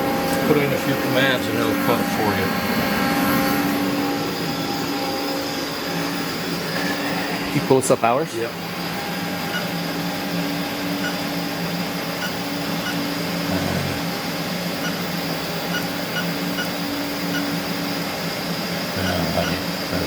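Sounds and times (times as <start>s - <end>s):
lathe humming: 0.0s - 20.0s.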